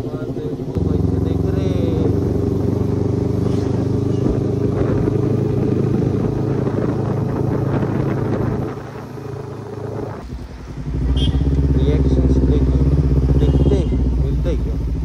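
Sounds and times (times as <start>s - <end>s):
motorcycle engine idling: 0.0s - 7.5s, 9.0s - 15.0s.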